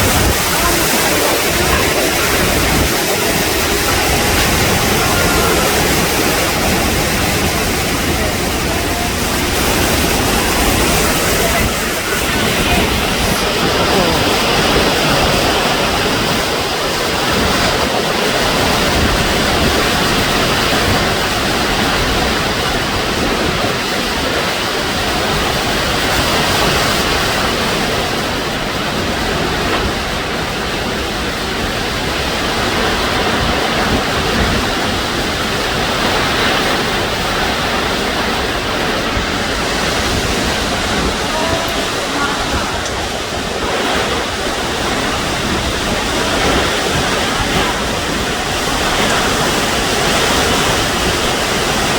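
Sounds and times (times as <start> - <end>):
heavy driving rain: 0.0 - 51.9
strong wind: 0.0 - 51.9.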